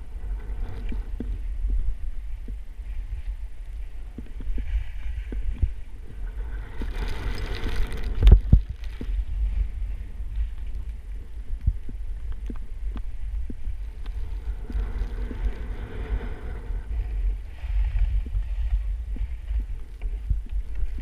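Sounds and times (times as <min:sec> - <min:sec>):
skis scraping over snow: 0:00.0 - 0:11.5, 0:13.0 - 0:21.0
wind buffeting microphone: 0:00.0 - 0:21.0.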